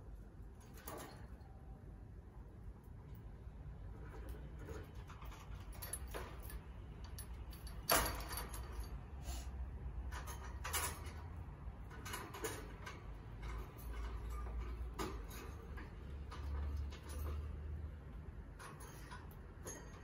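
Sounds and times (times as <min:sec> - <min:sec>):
birdcage rattling: 0:00.5 - 0:01.5, 0:03.9 - 0:09.0, 0:10.1 - 0:20.0.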